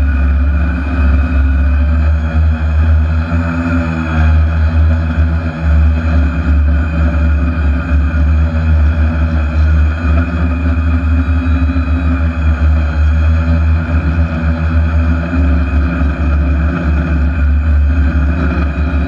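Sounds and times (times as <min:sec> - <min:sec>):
drone motors and propellers humming: 0:00.0 - 0:19.0
fluttering low rumble: 0:00.0 - 0:19.0.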